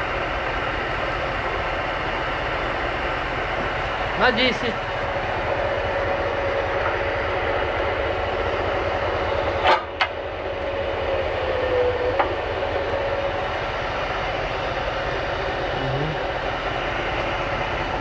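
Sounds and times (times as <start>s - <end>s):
rolling machine clattering rumble: 0.0s - 18.0s.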